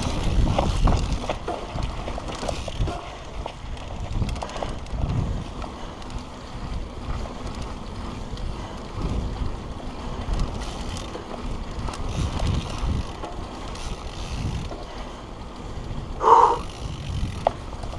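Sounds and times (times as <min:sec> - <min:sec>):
bike rattling and clicking: 0:00.0 - 0:17.9
tyre noise on dirt: 0:00.0 - 0:17.9
wind buffeting microphone: 0:00.0 - 0:17.9.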